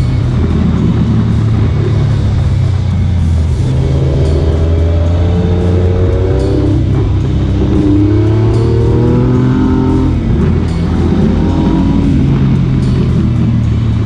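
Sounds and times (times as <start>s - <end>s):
background music with steady beat: 0.0s - 14.0s
motorcycle engines accelerating: 0.0s - 14.0s.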